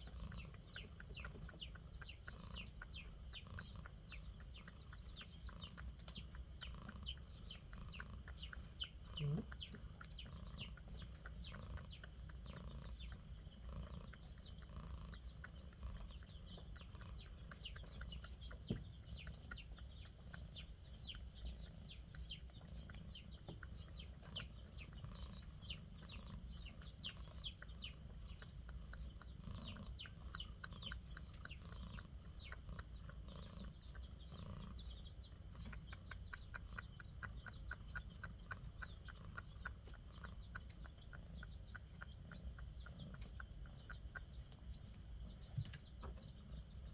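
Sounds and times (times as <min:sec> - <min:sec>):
birds chirping: 0:00.0 - 0:46.9
chickens clucking: 0:00.0 - 0:46.9
low steady rumble: 0:00.0 - 0:46.9.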